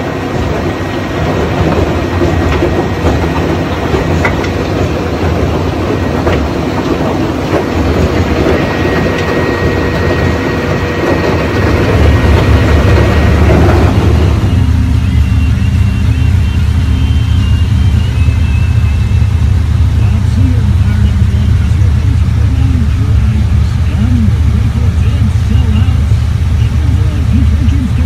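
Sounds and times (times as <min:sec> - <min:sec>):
rock crusher rumbling: 0:00.0 - 0:28.0.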